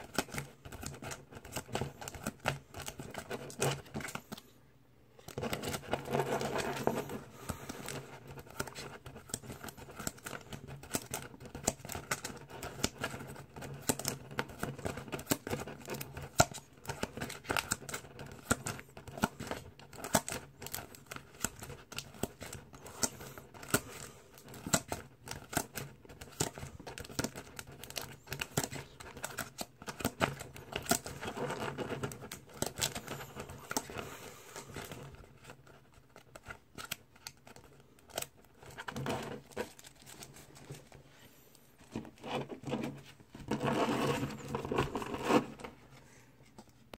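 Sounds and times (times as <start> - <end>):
cards clicking and rustling: 0.0 - 4.5, 5.2 - 41.0.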